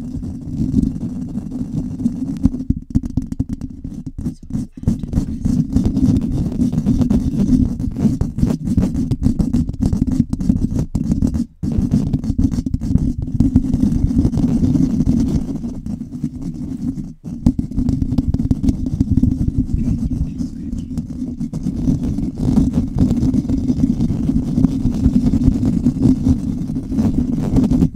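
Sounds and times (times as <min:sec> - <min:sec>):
fingers scratching a microphone: 0:00.0 - 0:27.9.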